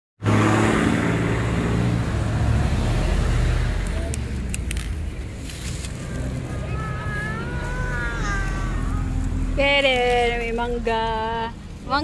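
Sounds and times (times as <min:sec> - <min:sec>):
street noise: 0:00.2 - 0:12.0
vehicle engine humming: 0:00.2 - 0:12.0.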